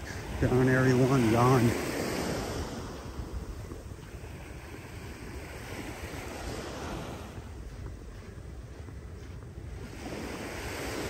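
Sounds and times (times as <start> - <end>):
surf washing onto beach: 0.0 - 7.8, 9.7 - 11.0
wind buffeting microphone: 0.0 - 11.0.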